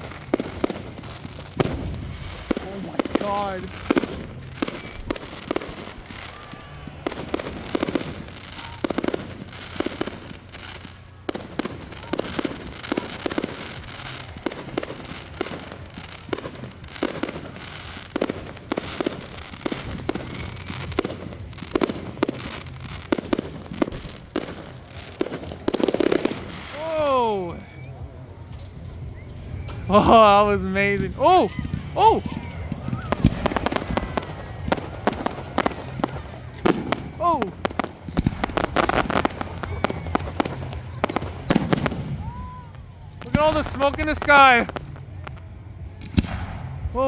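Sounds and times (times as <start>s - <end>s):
fireworks bursting with bangs and crackles: 0.0s - 47.0s.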